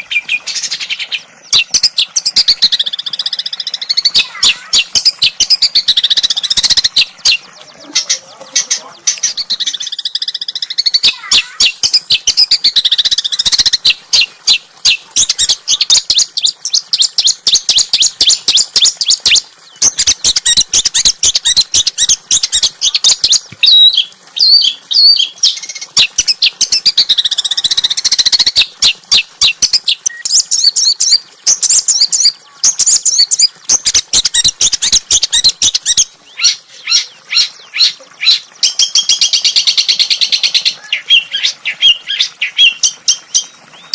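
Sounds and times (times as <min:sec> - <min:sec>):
songbird chirping and trilling: 0:00.0 - 0:43.9.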